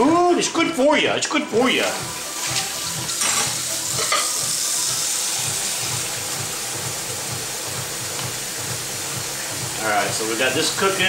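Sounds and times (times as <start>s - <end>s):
chicken sizzling in a pan: 1.5s - 11.0s.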